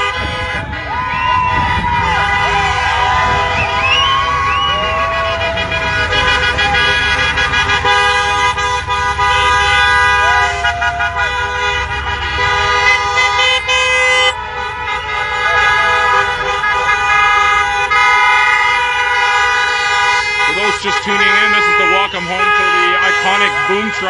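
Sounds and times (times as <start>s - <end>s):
engines rumbling: 0.0s - 24.0s
vehicle horns honking: 0.0s - 24.0s.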